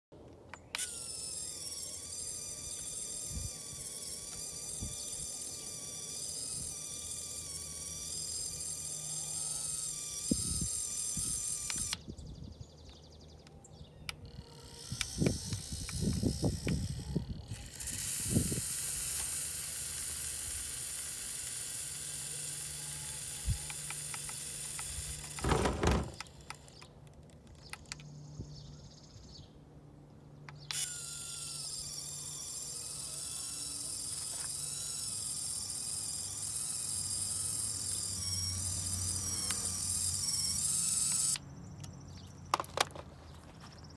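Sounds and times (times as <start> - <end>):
servo winch whining: 0.5 - 12.1, 14.1 - 28.0, 30.5 - 41.5.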